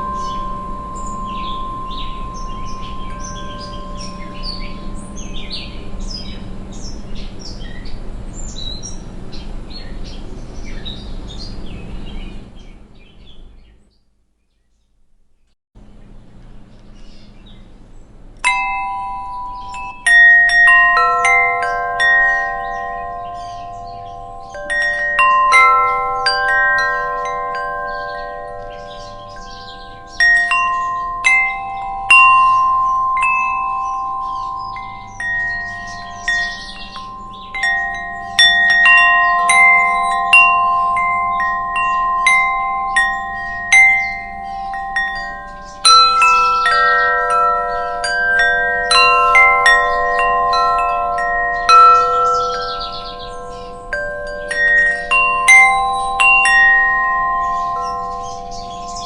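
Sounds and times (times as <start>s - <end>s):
wind chimes ringing: 0.0s - 13.3s, 16.7s - 59.0s.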